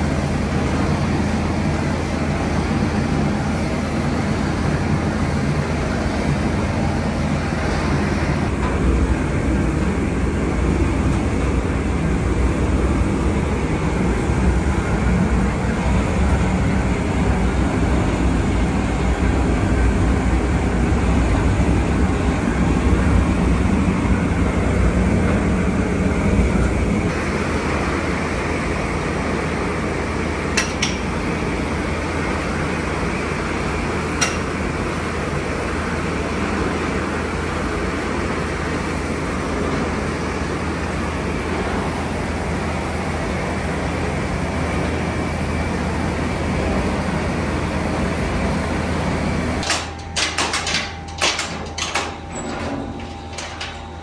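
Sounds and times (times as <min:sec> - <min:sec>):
machinery humming: 0:00.0 - 0:54.0.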